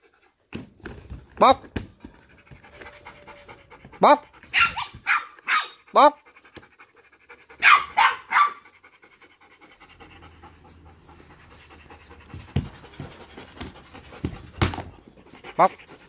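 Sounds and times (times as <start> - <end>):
dog panting hard: 0.0 - 16.0.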